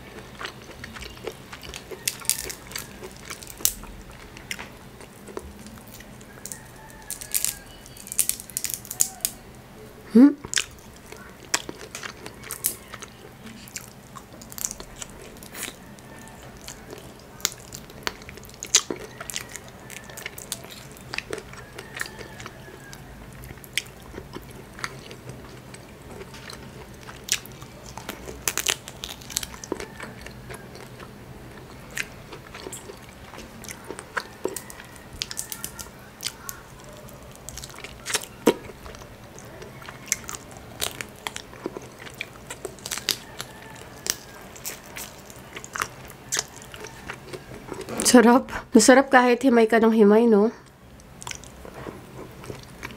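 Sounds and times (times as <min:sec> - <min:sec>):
chewing: 0:00.0 - 0:09.5, 0:10.4 - 0:48.2, 0:50.6 - 0:52.9
crab shell crackling: 0:00.0 - 0:09.7, 0:10.4 - 0:48.2, 0:50.7 - 0:52.9.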